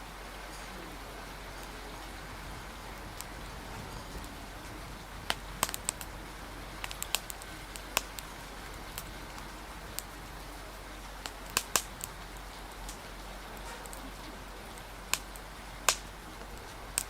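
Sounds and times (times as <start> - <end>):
fire crackling and popping: 0.0 - 17.0
steady rain: 0.0 - 17.0.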